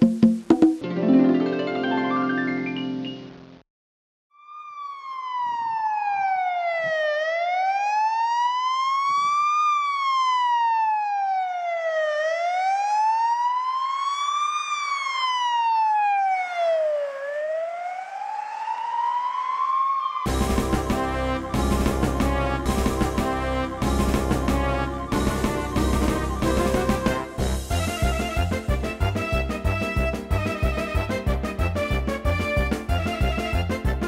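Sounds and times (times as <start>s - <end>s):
ambulance siren wailing: 4.4s - 34.0s.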